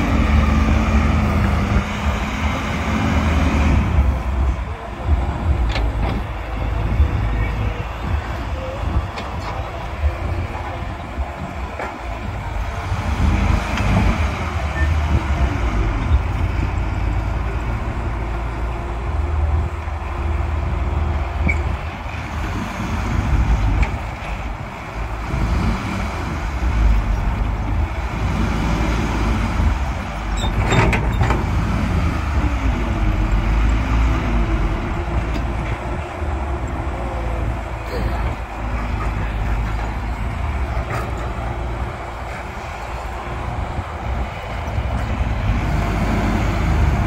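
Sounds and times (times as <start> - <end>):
heavy diesel engines straining: 0.0 - 47.0.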